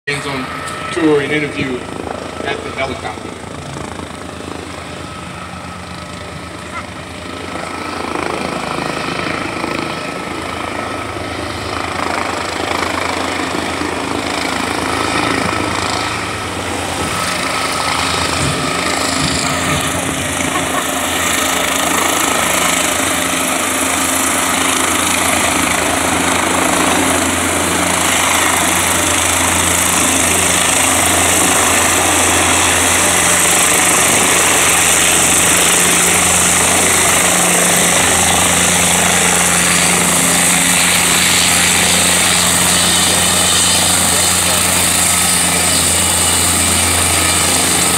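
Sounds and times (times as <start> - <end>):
helicopter rotor chop and engine: 0.1 - 47.9.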